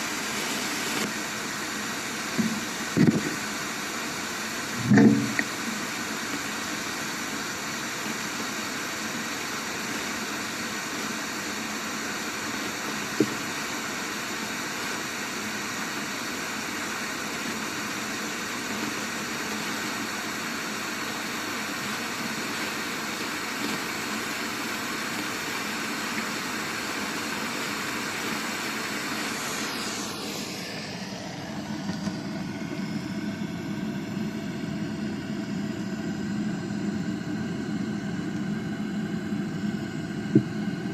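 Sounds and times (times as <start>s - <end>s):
faint hum tones: 0.0s - 40.9s
lower hum: 0.0s - 40.9s
steady rushing noise: 0.0s - 40.9s.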